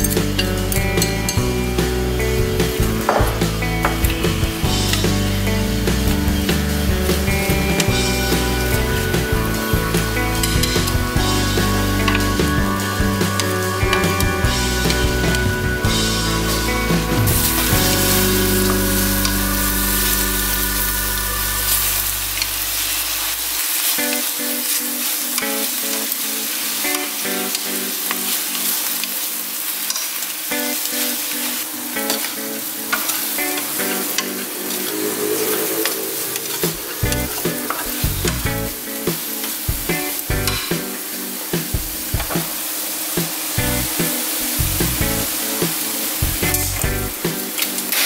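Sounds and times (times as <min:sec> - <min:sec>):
background music: 0:00.0 - 0:48.0.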